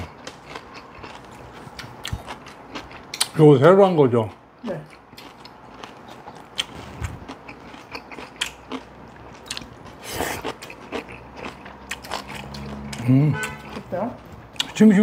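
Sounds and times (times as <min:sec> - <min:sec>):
people chewing and crunching: 0:00.0 - 0:15.0.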